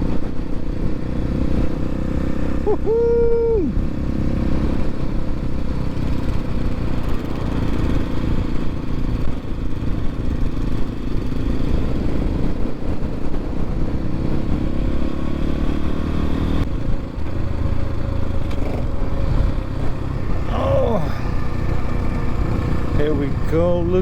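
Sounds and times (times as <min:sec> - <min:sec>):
dirt bike engine running: 0:03.8 - 0:24.0.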